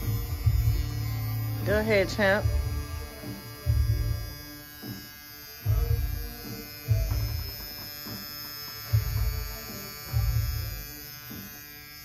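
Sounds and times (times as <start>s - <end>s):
tattoo machine buzzing: 0.0s - 12.0s.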